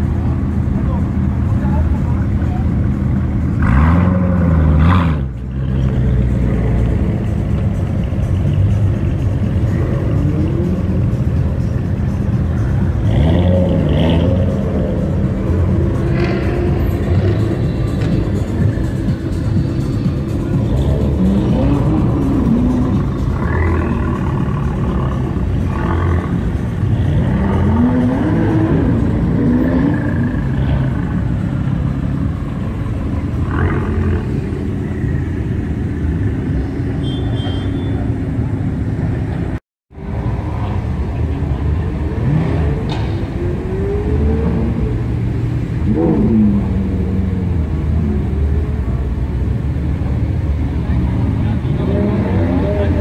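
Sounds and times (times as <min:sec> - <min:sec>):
car engines rumbling: 0:00.0 - 0:53.0.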